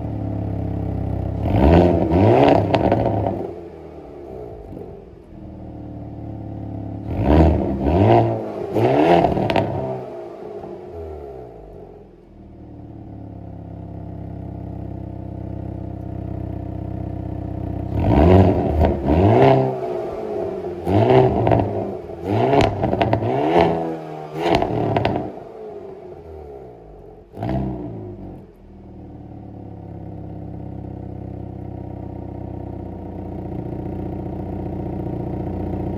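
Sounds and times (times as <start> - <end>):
car engine revving through exhaust: 0.0 - 35.9.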